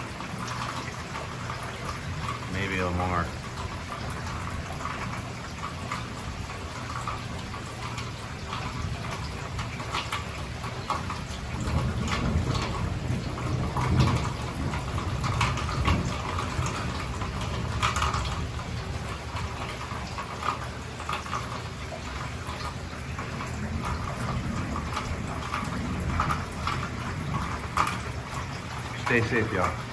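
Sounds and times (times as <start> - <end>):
heavy rain splashing: 0.0 - 29.9
rain drip clicks: 0.0 - 29.9.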